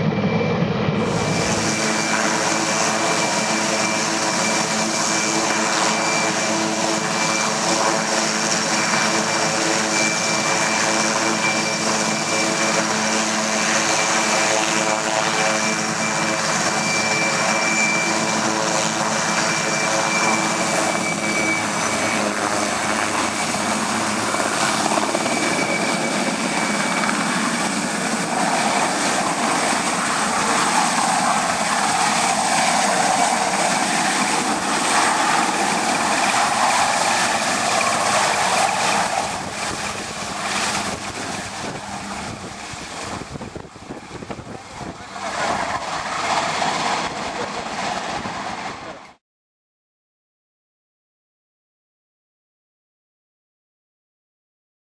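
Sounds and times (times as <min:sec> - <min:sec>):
helicopter rotor noise: 0:00.0 - 0:49.2
helicopter turbine whine: 0:00.0 - 0:49.2.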